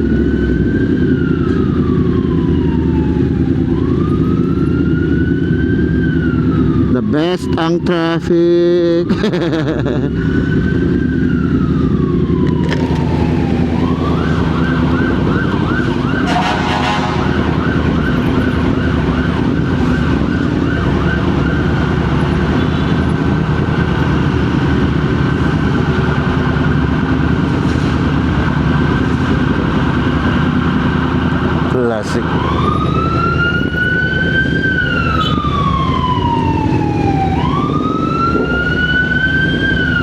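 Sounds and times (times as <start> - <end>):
emergency vehicle siren: 0.0 - 40.0.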